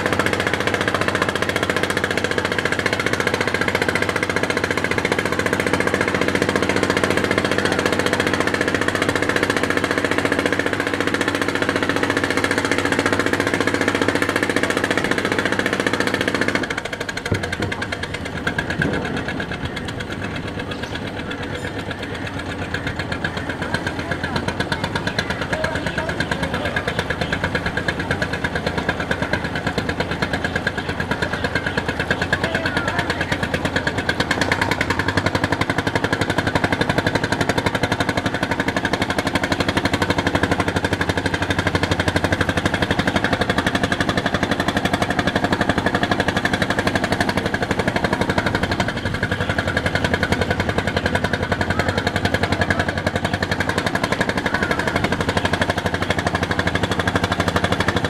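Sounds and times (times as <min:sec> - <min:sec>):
boat engine chugging: 0:00.0 - 0:58.0.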